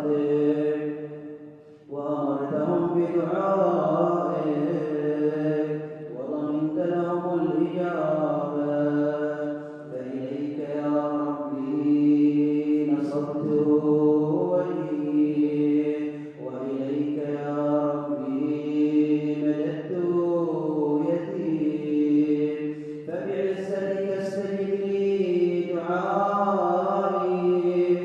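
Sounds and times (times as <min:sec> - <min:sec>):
man chanting: 0:00.0 - 0:00.9, 0:01.9 - 0:28.0.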